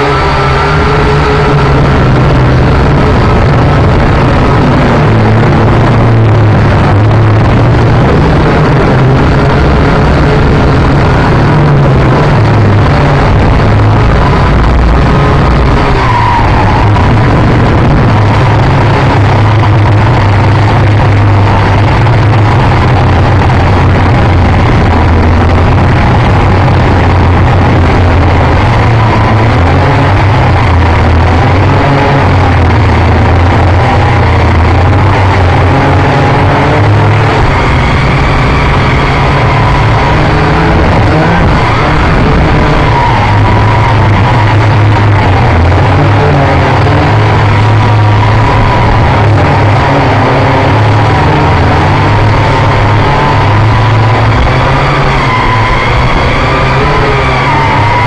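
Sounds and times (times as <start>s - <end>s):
drone motors and propellers droning: 0.0s - 58.0s.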